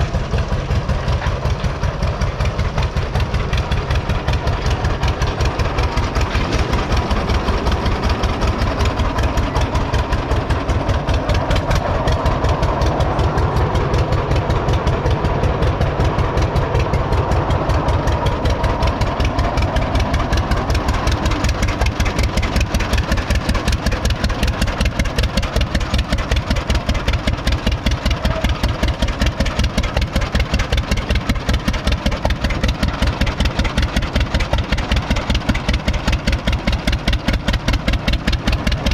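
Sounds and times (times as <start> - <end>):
tractor engine pulsing exhaust: 0.0 - 38.9.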